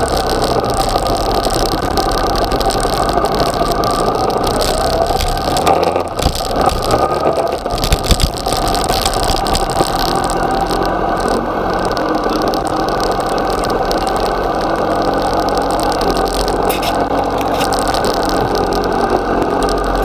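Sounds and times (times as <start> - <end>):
motorcycle engine at low revs: 0.0 - 20.0
wind noise on microphone: 0.0 - 20.0.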